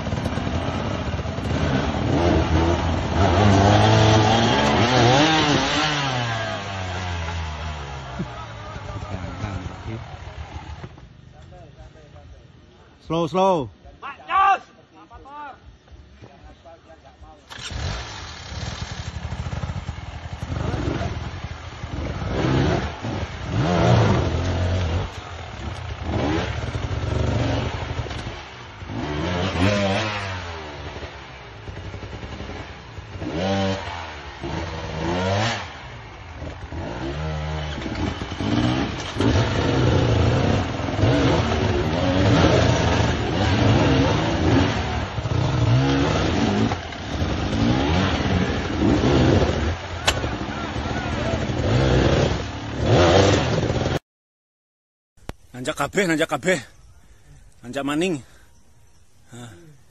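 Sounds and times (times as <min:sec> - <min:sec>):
dirt bike engines revving: 0:00.0 - 0:54.0, 0:55.3 - 0:59.9.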